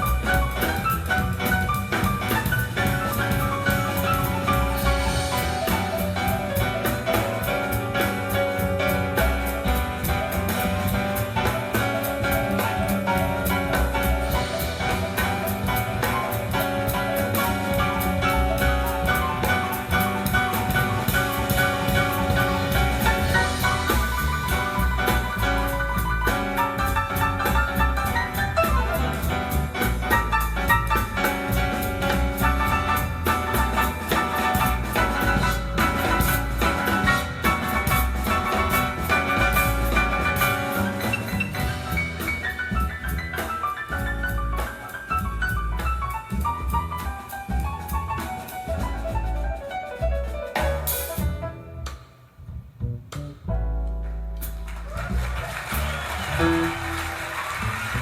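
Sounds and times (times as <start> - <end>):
instrumental music with steady beat: 0.0 - 58.0.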